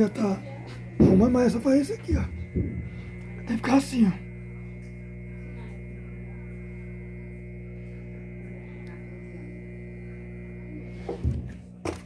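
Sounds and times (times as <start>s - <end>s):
electrical hum: 0.0s - 12.0s
thin high whine: 0.0s - 12.0s.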